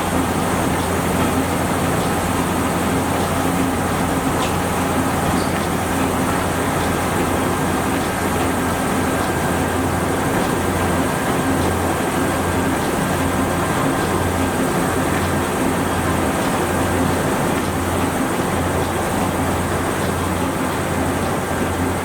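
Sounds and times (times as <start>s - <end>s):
printing press rollers rumbling: 0.0s - 22.0s.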